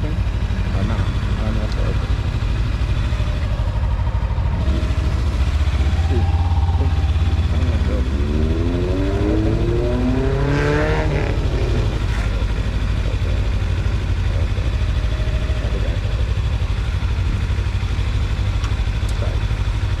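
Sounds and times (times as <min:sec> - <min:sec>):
motorcycle engine idling: 0:00.0 - 0:20.0
rising whine: 0:00.0 - 0:20.0.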